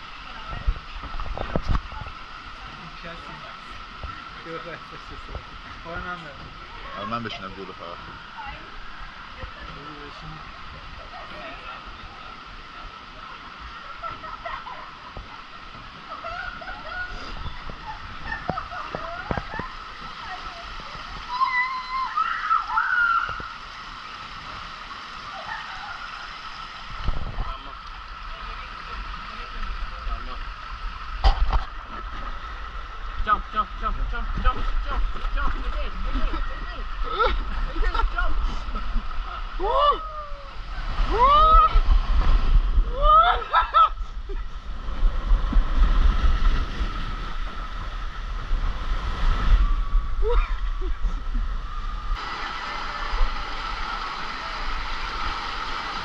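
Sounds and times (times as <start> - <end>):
water sloshing along slide: 0.0 - 56.0.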